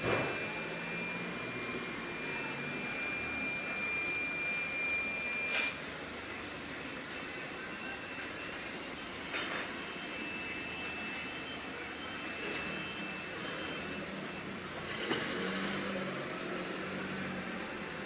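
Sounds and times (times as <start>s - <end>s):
bread slicer humming and whining: 0.0s - 18.0s.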